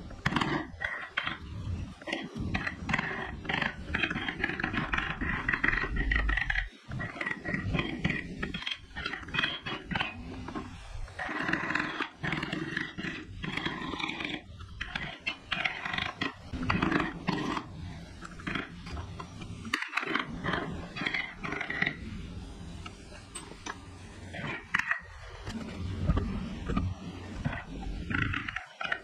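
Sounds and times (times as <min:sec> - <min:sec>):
carving tool on wood: 0:00.0 - 0:29.0.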